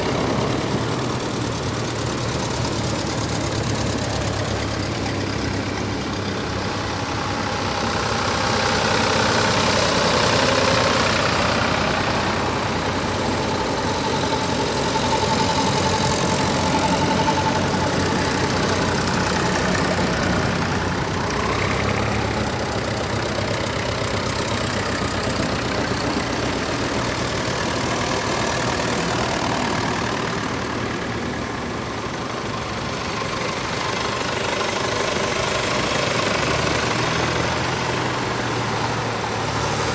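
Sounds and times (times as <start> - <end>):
tractor engines running: 0.0 - 39.9.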